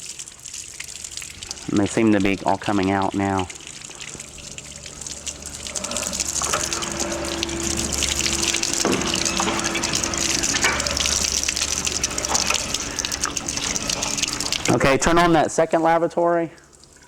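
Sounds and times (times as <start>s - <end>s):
water gushing through plumbing: 0.0s - 17.0s.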